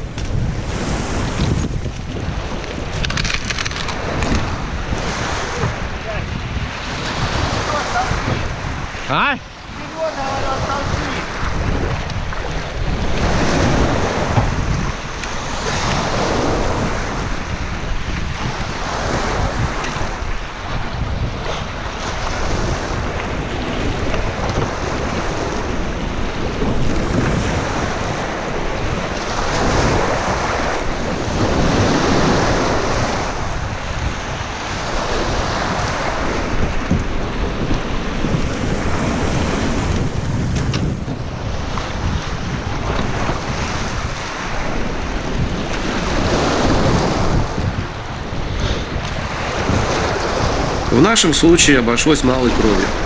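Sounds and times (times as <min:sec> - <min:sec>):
waves splashing against metal hull: 0:00.0 - 0:53.0
wind rumbling on microphone: 0:00.0 - 0:53.0.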